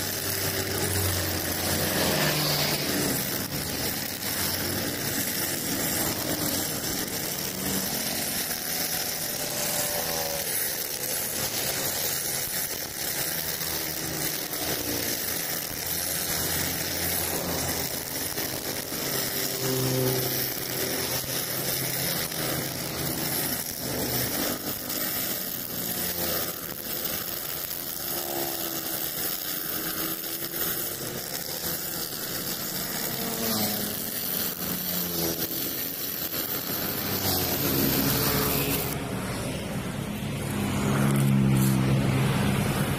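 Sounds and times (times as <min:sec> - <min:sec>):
brush cutter engine running: 0:00.0 - 0:42.9
trimmer line whirring through grass: 0:00.0 - 0:42.9.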